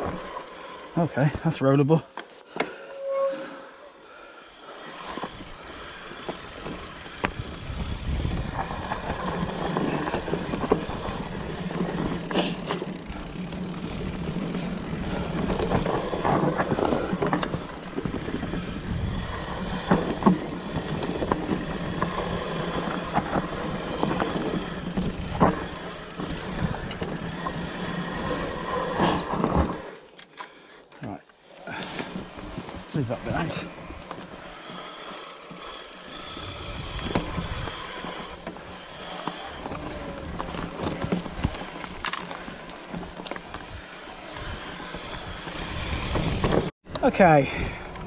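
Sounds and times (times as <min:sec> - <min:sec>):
bike tyres rolling over dirt: 0:00.0 - 0:02.8, 0:04.0 - 0:30.6, 0:31.4 - 0:48.0
bike rattling and knocking: 0:04.9 - 0:29.9, 0:31.7 - 0:48.0.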